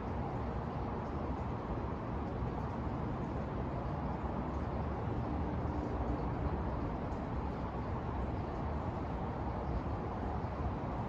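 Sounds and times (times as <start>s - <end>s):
city background hum: 0.0s - 11.0s.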